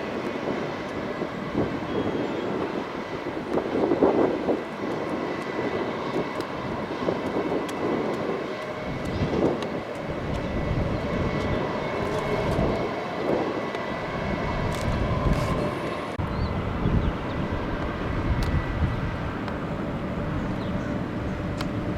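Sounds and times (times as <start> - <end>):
airplane engine drone: 0.0 - 21.9.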